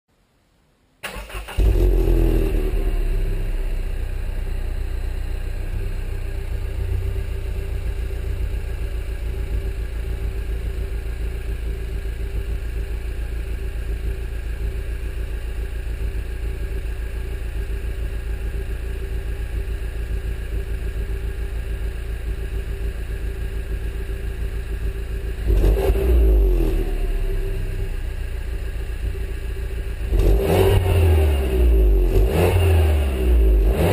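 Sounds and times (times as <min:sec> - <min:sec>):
car engine starting and idling: 0:01.0 - 0:33.9.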